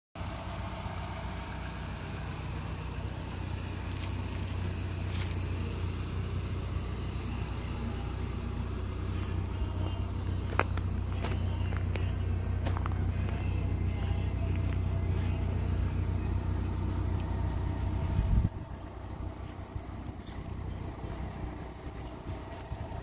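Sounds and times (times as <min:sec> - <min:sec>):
car engine idling: 0:00.2 - 0:23.0.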